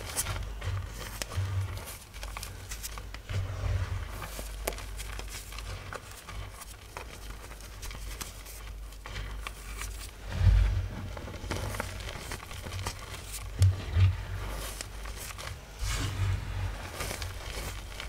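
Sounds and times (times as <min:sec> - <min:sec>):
chalk crunching and crackling: 0:00.0 - 0:18.0.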